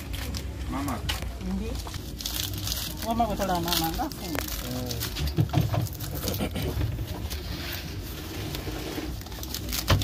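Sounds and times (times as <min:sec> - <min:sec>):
leaves rustling and crinkling: 0:00.0 - 0:10.0.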